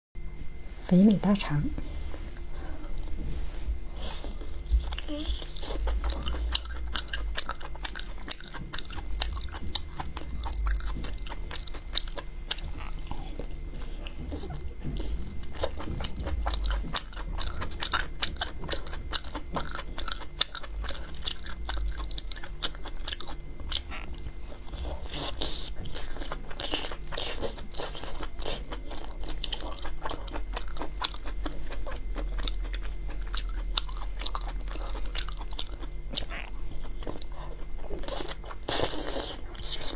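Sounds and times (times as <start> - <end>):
steady low hum: 0.2 - 39.9
close-miked chewing: 4.0 - 39.9.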